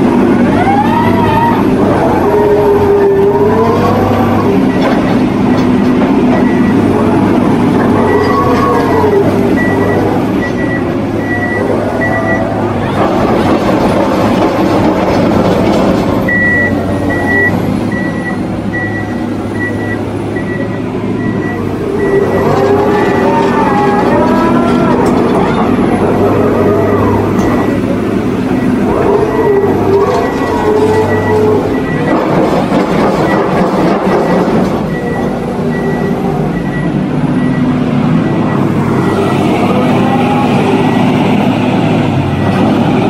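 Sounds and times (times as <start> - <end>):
piling rig diesel engine and hydraulics: 0.0 - 43.0.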